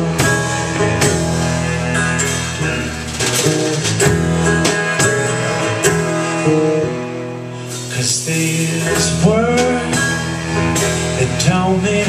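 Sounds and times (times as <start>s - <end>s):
live band playing: 0.0s - 12.0s
strummed guitar: 0.0s - 12.0s.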